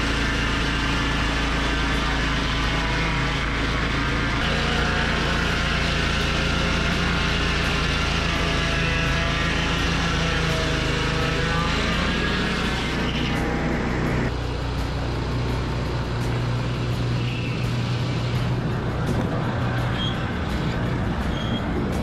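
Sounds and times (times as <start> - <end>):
circular saw cutting wood: 0.0 - 22.0
engine hum: 0.0 - 22.0.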